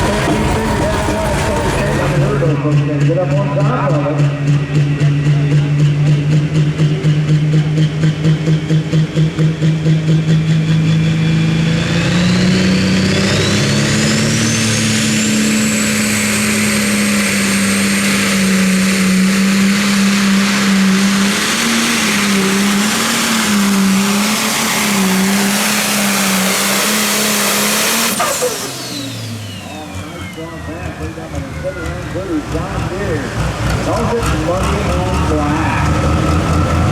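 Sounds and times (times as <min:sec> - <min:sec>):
diesel tractor engine: 0:00.0 - 0:36.9
turbocharger whine: 0:00.0 - 0:36.9.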